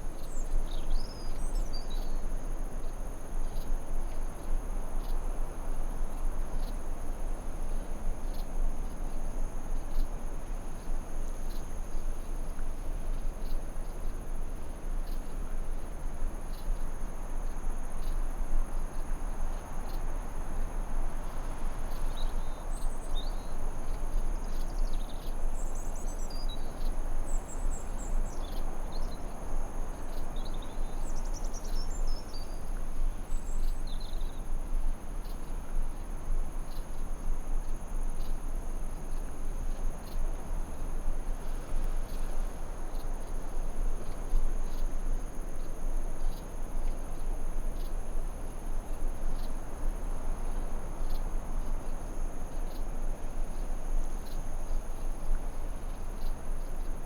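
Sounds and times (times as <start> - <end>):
cricket chorus: 0.0 - 57.0
low background noise: 0.0 - 57.0.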